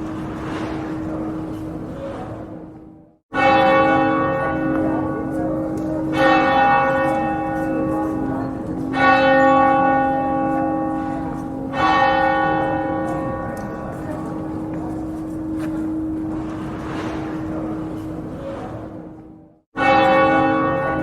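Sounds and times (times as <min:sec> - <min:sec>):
church bell tolling: 0:00.0 - 0:21.0.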